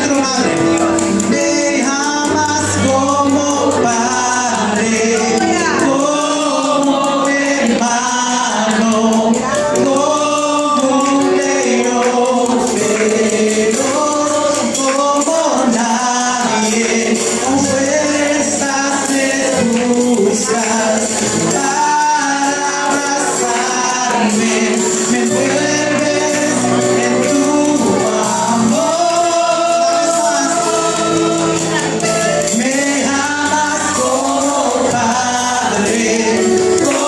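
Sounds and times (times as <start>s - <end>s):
high jingling percussion: 0.0s - 37.0s
man singing into microphone: 0.0s - 37.0s
other voices singing: 0.0s - 37.0s.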